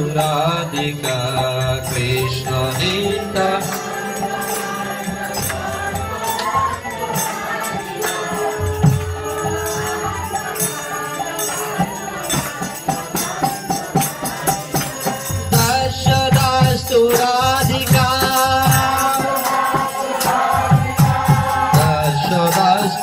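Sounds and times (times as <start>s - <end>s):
small cymbals jingling: 0.0s - 23.0s.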